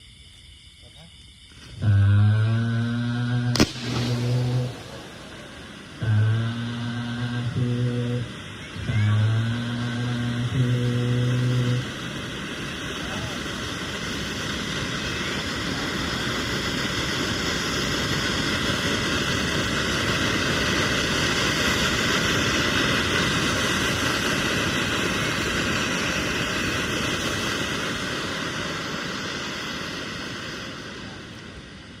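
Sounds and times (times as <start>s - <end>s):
firework fountain hissing: 0.0s - 32.0s.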